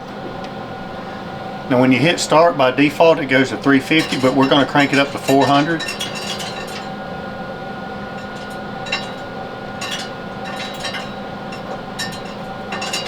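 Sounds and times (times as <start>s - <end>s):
smoker fan motor hum: 0.0s - 13.0s.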